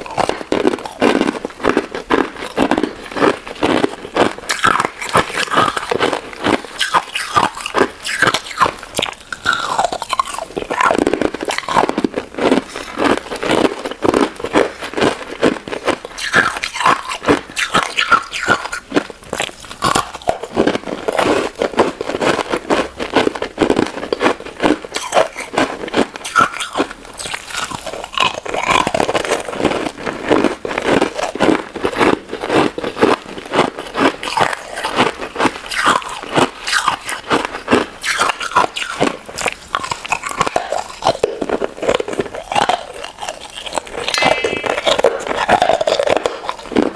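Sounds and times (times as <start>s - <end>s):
crunching and chewing ice dessert: 0.0s - 46.9s.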